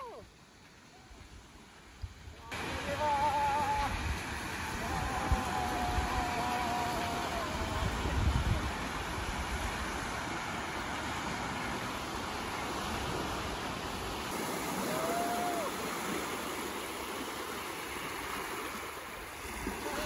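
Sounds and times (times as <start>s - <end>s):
small sea waves breaking: 0.0s - 20.0s.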